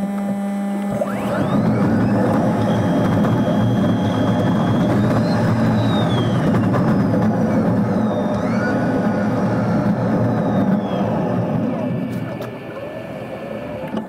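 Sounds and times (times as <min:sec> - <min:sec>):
electric motor whine: 0:00.0 - 0:14.0
bus road and running noise: 0:00.1 - 0:14.0.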